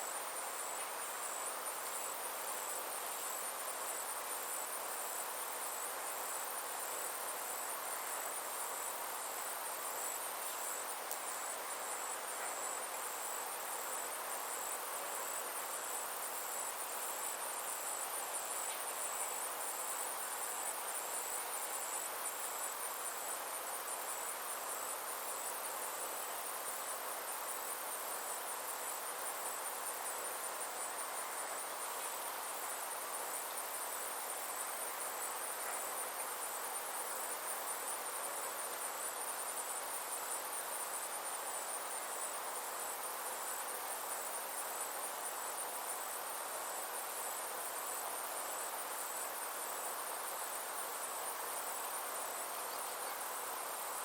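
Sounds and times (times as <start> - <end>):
insects trilling: 0.0 - 54.0
soft background hiss: 0.0 - 54.0.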